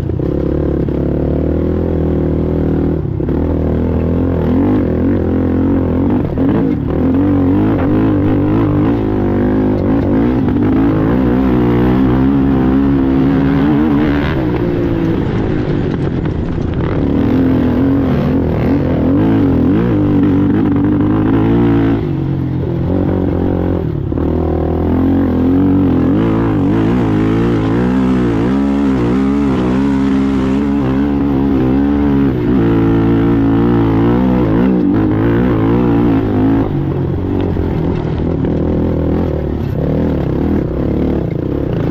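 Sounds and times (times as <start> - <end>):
atv engine running hard: 0.0 - 41.9.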